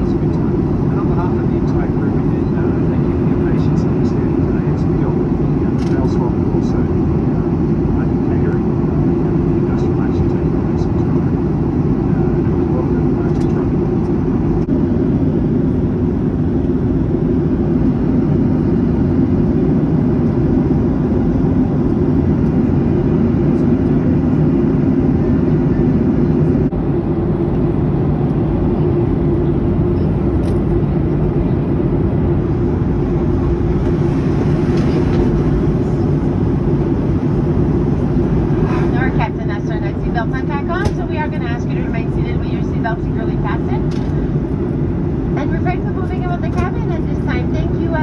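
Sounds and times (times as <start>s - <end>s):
jet airliner cabin engine rumble: 0.0s - 48.0s.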